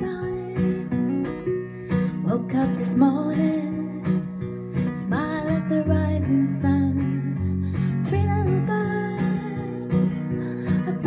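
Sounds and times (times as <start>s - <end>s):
acoustic guitar strumming: 0.0s - 11.0s
woman singing: 0.0s - 11.0s.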